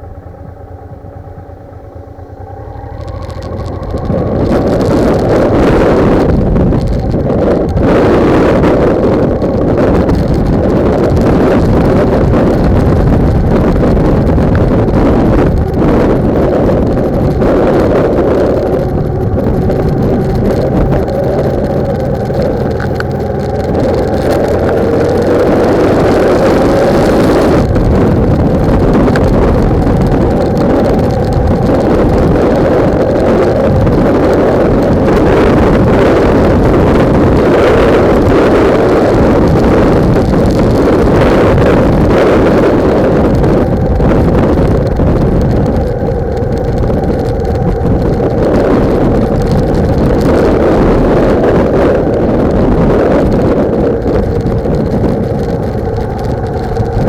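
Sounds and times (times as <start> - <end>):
motorbike engine running: 0.0 - 57.0
wind buffeting microphone: 0.0 - 57.0.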